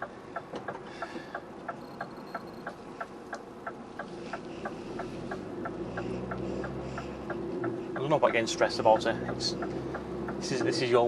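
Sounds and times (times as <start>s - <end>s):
low engine hum: 0.0s - 11.0s
turn signal ticking: 0.0s - 11.0s.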